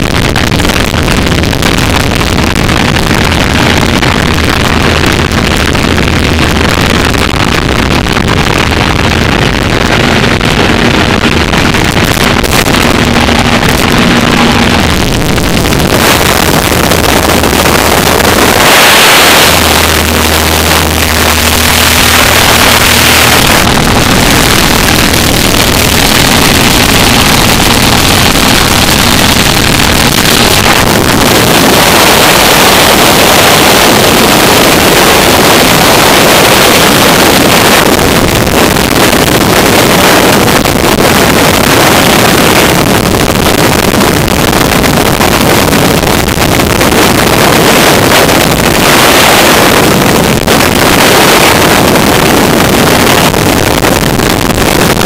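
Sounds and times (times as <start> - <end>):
wind rushing across microphone: 0.0 - 55.0.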